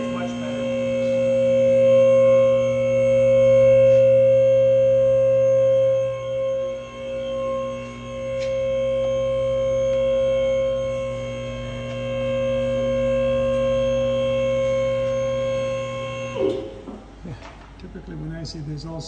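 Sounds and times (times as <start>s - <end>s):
humming drone of held tones: 0.0s - 19.0s.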